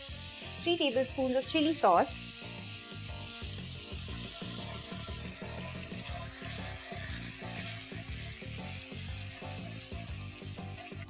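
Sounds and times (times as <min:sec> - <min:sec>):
background music: 0:00.0 - 0:11.0
sauce sizzling in hot oil: 0:00.0 - 0:11.0.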